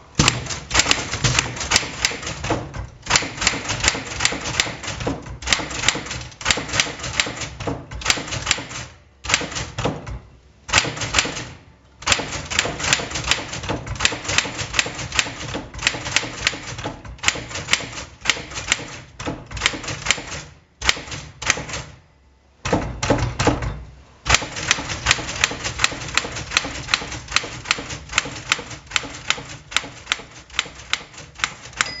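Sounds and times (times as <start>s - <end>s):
low rumble of typewriter: 0.1s - 22.0s, 22.6s - 32.0s
manual typewriter typing: 0.1s - 22.0s, 22.6s - 32.0s.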